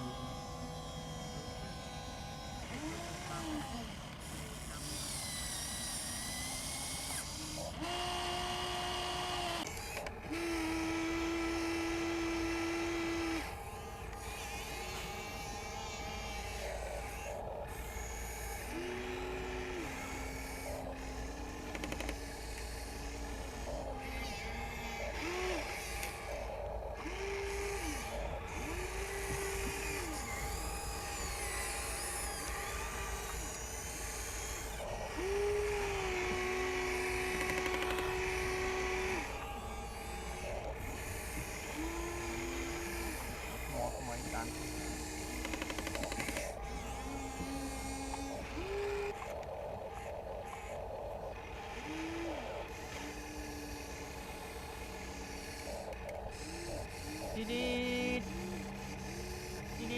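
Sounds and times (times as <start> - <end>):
small electric motors whining: 0.0 - 59.9.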